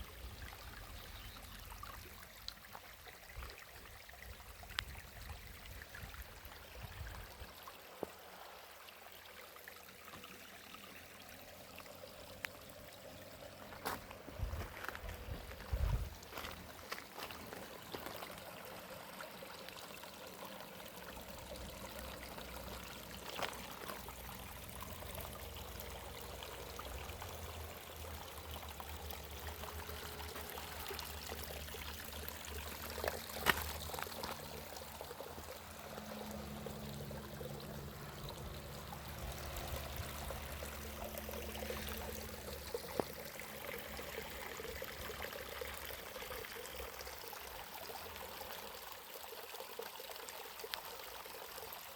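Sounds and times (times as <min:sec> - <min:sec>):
water trickling: 0:00.0 - 0:51.9.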